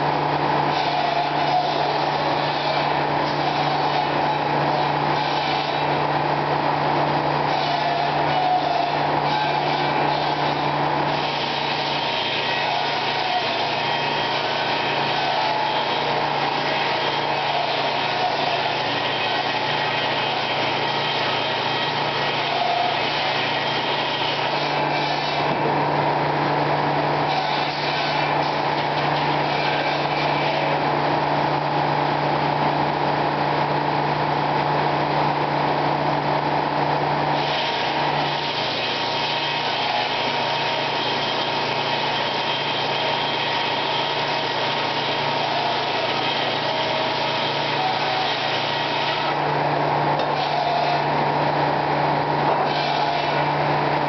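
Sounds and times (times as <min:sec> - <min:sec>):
log passing through saw: 0:00.0 - 0:33.4, 0:37.2 - 0:54.0
circular sawmill running: 0:00.0 - 0:54.0.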